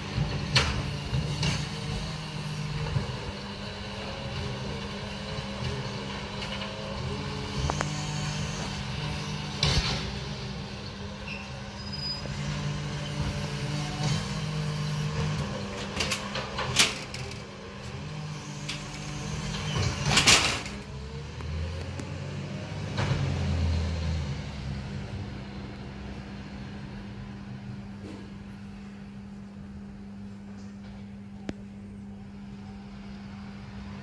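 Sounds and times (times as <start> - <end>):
garbage truck engine and hydraulics: 0.0 - 34.0.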